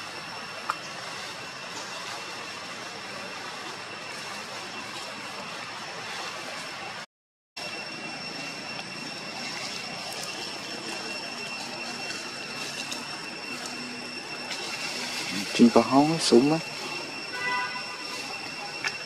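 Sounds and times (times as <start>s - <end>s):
high-pitched insect drone: 0.0s - 7.0s, 7.6s - 19.0s.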